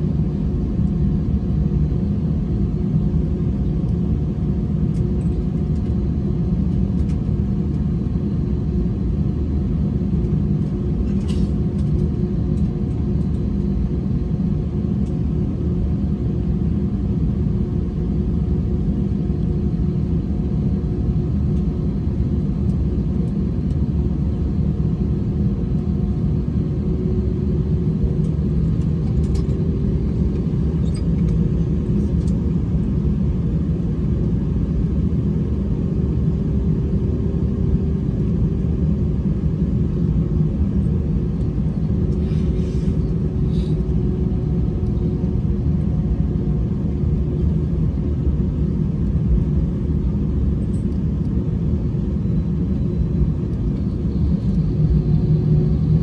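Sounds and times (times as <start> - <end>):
faint hum: 0.0 - 56.0
low rumble in aircraft cabin: 0.0 - 56.0.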